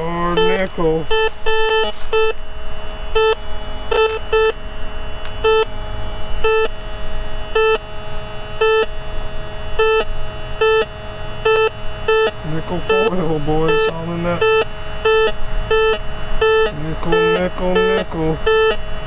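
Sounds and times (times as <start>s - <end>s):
faint steady tone: 0.0s - 19.0s
metal detector beeps: 0.0s - 19.0s.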